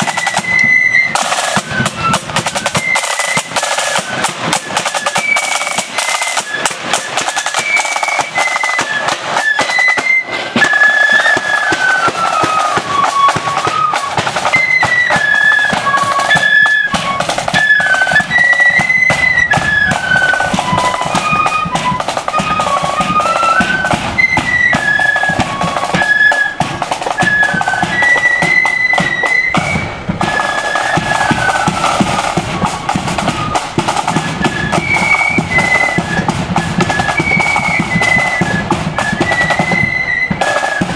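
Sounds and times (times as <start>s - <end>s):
flutes playing melody: 0.0s - 40.9s
snare drums: 0.0s - 40.9s.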